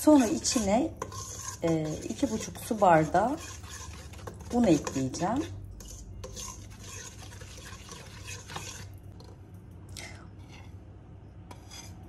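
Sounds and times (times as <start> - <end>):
metal spoon scraping a bowl: 0.0 - 9.4, 10.4 - 10.8, 11.4 - 12.0.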